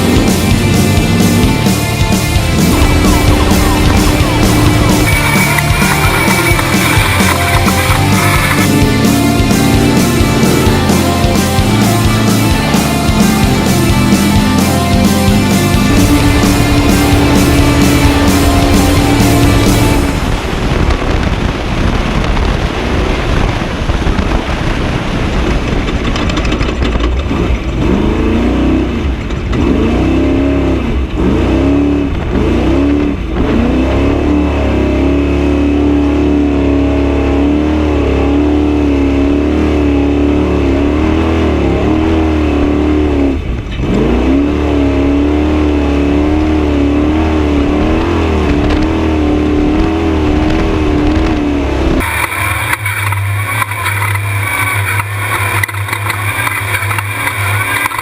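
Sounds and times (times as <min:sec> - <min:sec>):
truck engine revving at speed: 0:00.0 - 0:58.0.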